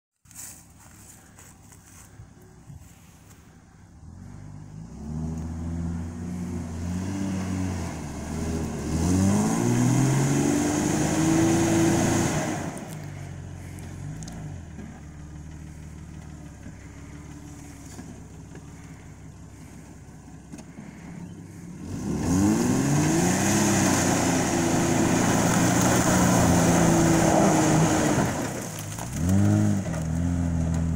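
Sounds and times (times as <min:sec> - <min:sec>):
car engine revving: 0:04.0 - 0:30.9.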